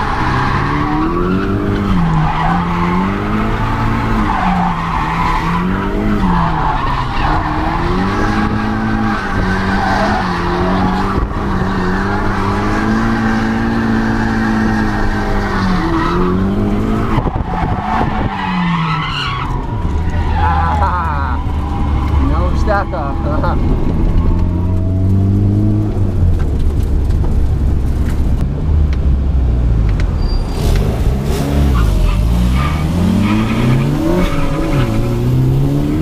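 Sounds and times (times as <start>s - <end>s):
tyres skidding: 0.0s - 28.4s, 29.6s - 36.0s
car engine revving: 0.0s - 28.6s, 30.5s - 36.0s.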